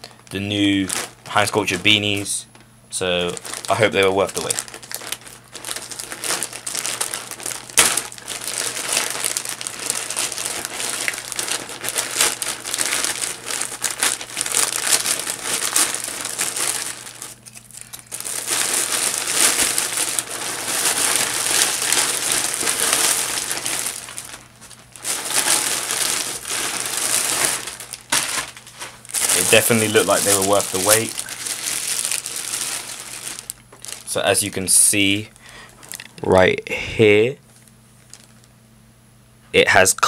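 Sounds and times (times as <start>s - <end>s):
packaging crinkling: 0.0s - 36.3s, 37.5s - 38.6s.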